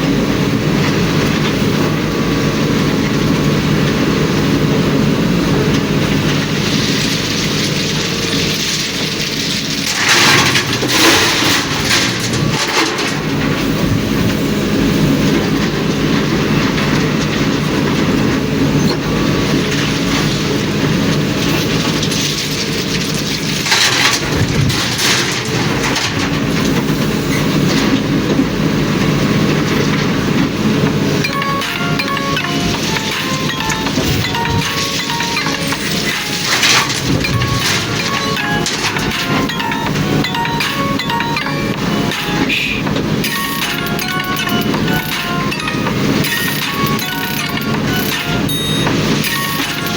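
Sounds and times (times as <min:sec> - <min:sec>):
truck diesel engine drone: 0:00.0 - 0:49.9.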